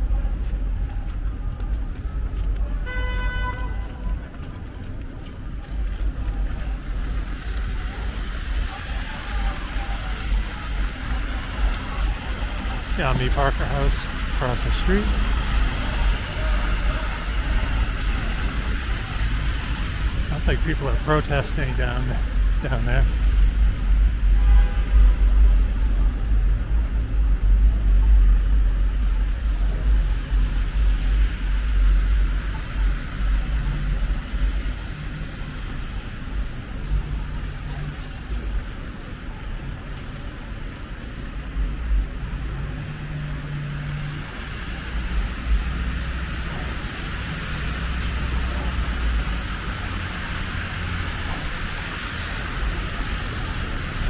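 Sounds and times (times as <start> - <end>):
traffic rumble: 0.0 - 54.0
vehicles passing: 0.0 - 54.0
engine humming: 3.8 - 54.0.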